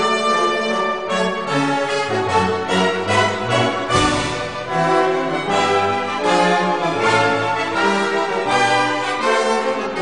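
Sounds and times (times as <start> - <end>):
orchestral music: 0.0 - 10.0.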